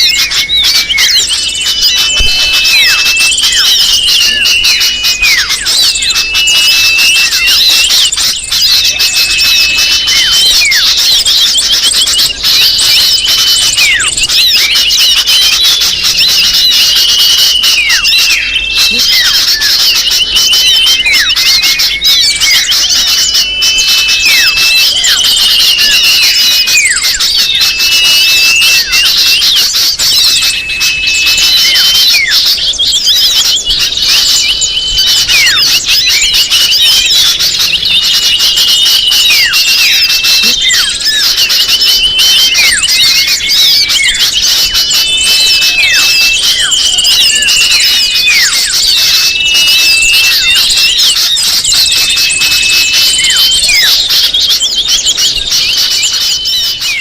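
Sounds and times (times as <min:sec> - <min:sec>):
small birds chirping and trilling: 0:00.0 - 0:57.0.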